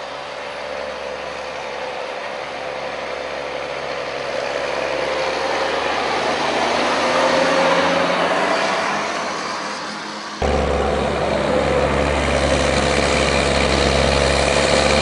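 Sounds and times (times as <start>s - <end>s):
tractor diesel engine running: 0.0s - 8.9s, 10.4s - 15.0s.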